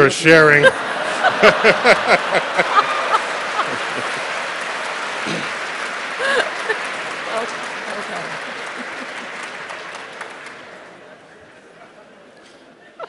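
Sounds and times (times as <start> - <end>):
audience laughing: 0.4 - 13.0
audience clapping: 1.0 - 11.6.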